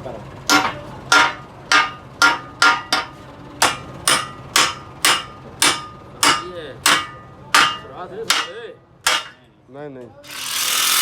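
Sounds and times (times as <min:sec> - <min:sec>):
hammer striking steel: 0:00.5 - 0:09.5.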